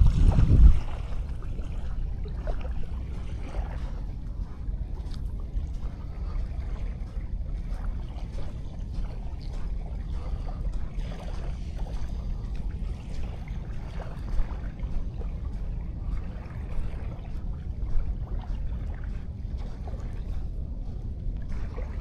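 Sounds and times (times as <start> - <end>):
sea waves washing: 0.0 - 22.0
wind rumbling on microphone: 0.0 - 22.0.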